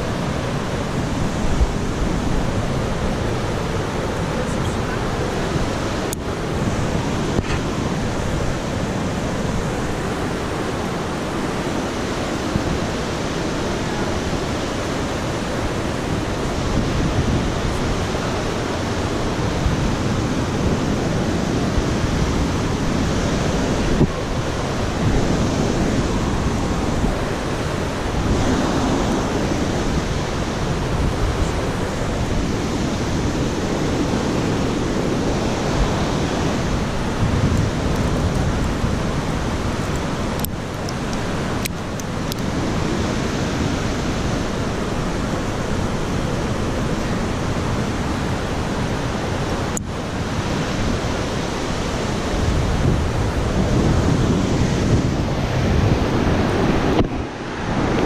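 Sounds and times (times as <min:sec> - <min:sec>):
mountain creek rushing: 0:00.0 - 0:58.0.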